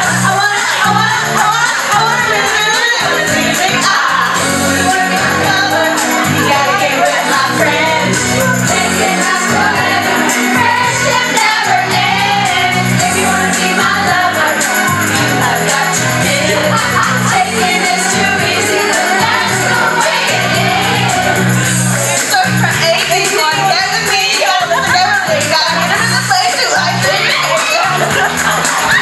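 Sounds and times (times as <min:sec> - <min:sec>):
pop backing track: 0:00.0 - 0:29.0
women singing karaoke: 0:00.0 - 0:29.0.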